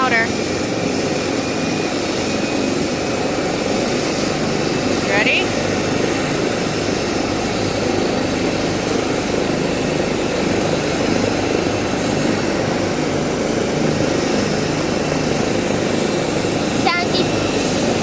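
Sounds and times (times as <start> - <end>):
helicopter engine and rotor: 0.0 - 18.0.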